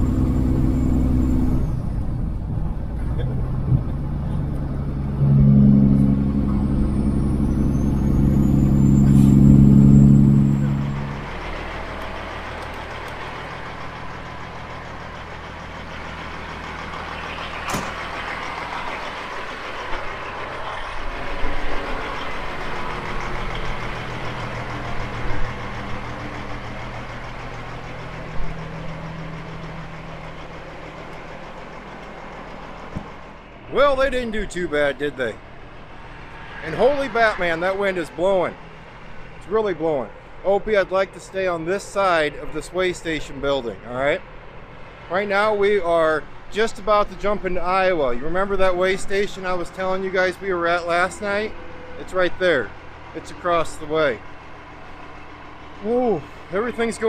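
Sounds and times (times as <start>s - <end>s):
low engine hum: 0.0s - 57.0s
truck diesel engine running: 0.0s - 57.0s.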